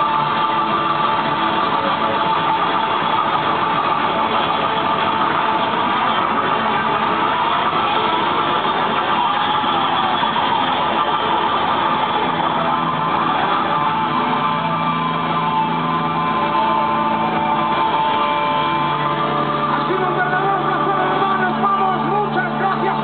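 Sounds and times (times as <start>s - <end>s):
heavy metal band playing live: 0.0s - 23.0s.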